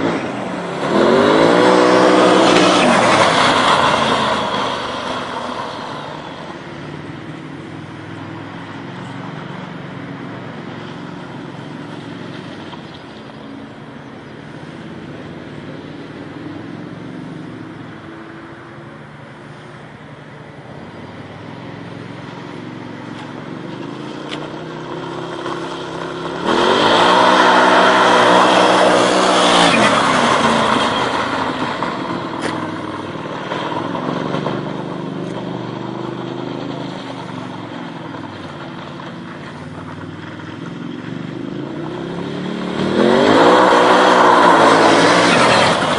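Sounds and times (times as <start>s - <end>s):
utility vehicle engine running: 0.0s - 45.9s.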